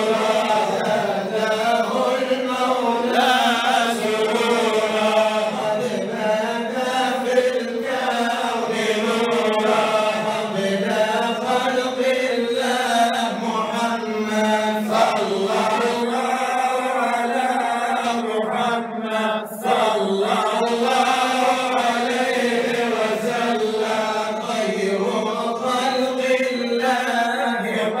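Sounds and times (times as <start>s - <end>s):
man chanting through microphone: 0.0s - 28.0s.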